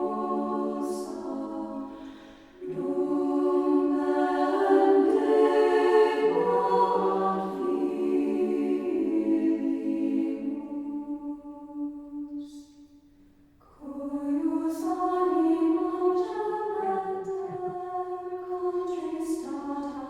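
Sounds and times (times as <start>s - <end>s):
choir singing held notes: 0.0s - 12.4s, 13.8s - 20.0s.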